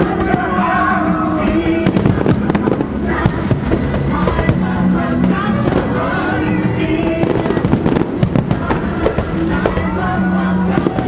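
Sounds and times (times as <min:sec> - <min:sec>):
fireworks bangs and crackles: 0:00.0 - 0:11.0
loud show music: 0:00.0 - 0:11.0.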